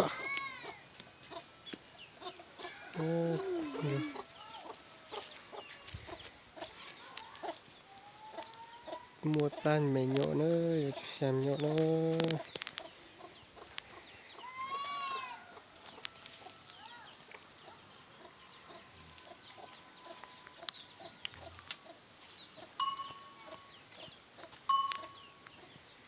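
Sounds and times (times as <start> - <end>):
poultry clucking and peeping: 0.0 - 26.0.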